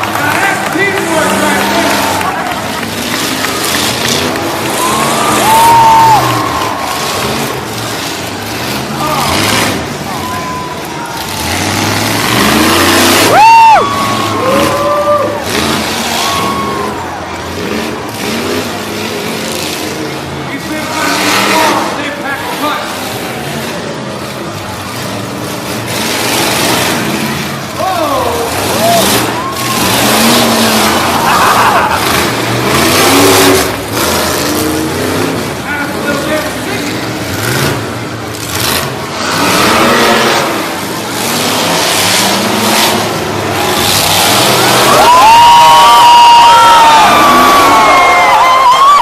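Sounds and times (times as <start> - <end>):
monster truck engines rumbling: 0.0 - 49.0.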